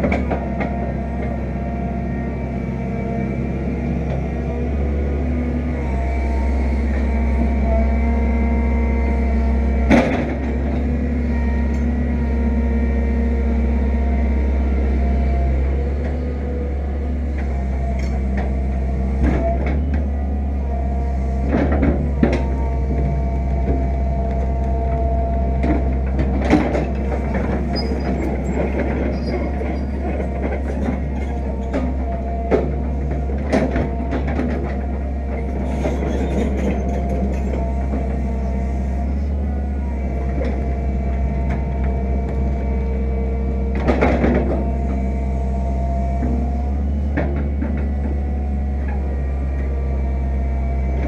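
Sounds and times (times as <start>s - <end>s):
excavator diesel engine digging: 0.0s - 51.0s.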